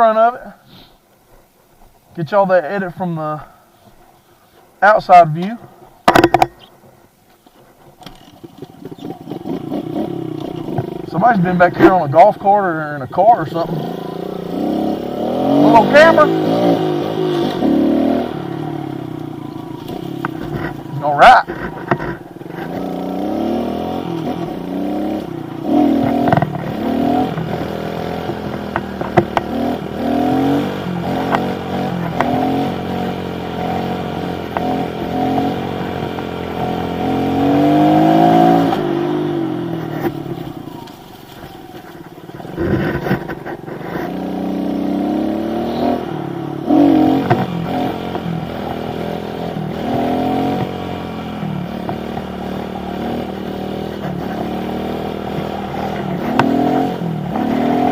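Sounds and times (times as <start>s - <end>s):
motorbike engine revving: 8.1s - 57.9s.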